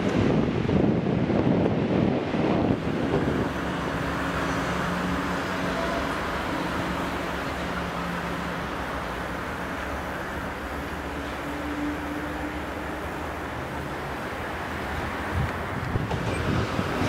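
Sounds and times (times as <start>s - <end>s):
distant electric train hum: 0.0s - 17.0s
road traffic rumble: 0.0s - 17.0s.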